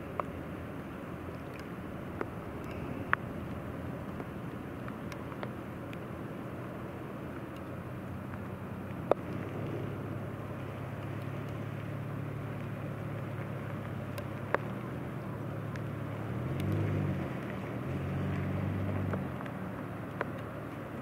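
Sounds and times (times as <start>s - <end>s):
turboprop plane droning: 0.0s - 21.0s.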